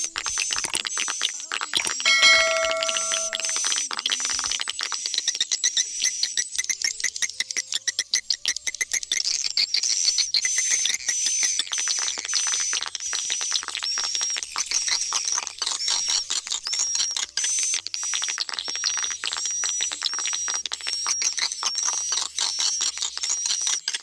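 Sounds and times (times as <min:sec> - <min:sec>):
rapid clicking bird twitter: 0:03.1 - 0:24.0.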